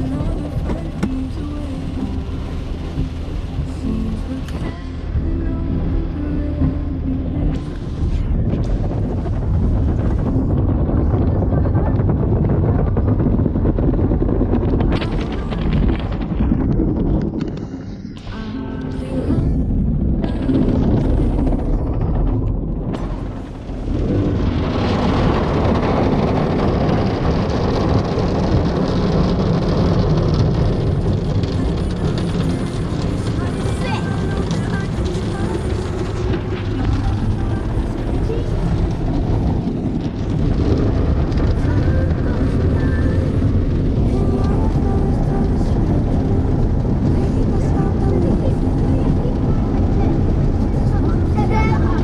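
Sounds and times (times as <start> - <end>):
water and brushes rumbling on car: 0.0 - 18.4, 19.0 - 52.0.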